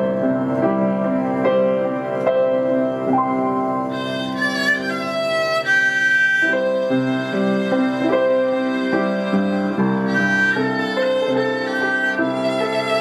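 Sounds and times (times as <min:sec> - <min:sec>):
slow instrumental music: 0:00.0 - 0:13.0.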